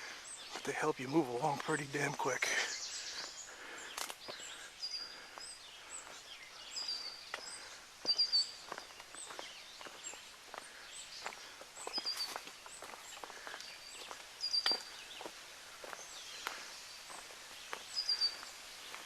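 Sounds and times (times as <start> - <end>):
footsteps on forest trail: 0.0 - 19.0.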